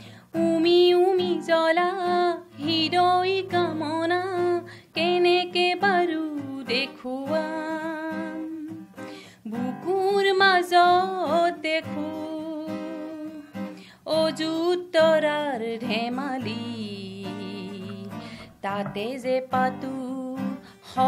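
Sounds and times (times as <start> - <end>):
acoustic guitar plucking: 0.0 - 21.0
woman singing: 0.2 - 21.0.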